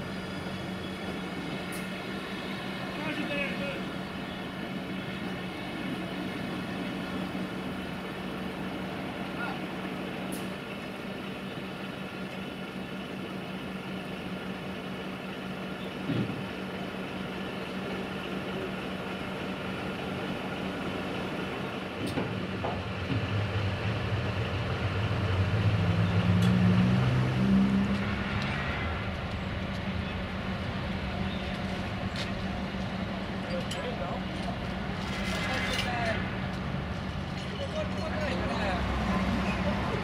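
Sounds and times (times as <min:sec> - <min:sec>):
vehicle engine humming: 0:00.0 - 0:40.0.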